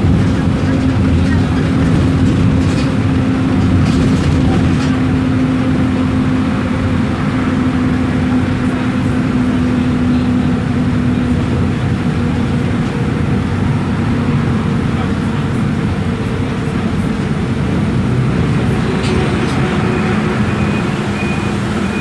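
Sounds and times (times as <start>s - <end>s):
diesel bus engine running: 0.0s - 22.0s.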